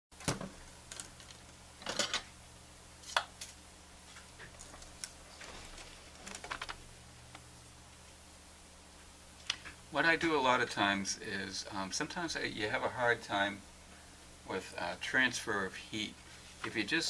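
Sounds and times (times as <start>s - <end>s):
faint low hum: 0.2s - 17.0s.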